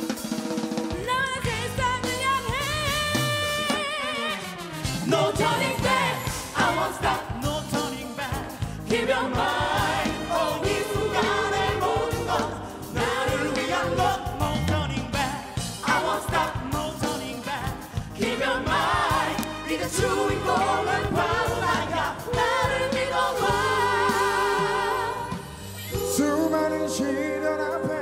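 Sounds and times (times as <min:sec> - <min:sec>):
live pop band playing: 0:00.0 - 0:28.0
singers singing together: 0:04.9 - 0:28.0.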